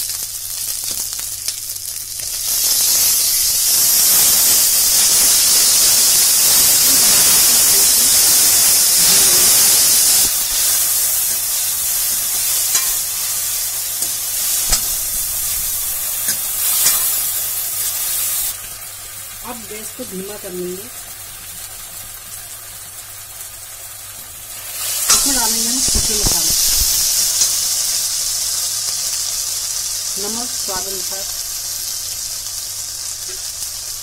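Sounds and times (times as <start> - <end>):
tomatoes sizzling in hot oil: 0.0 - 34.0.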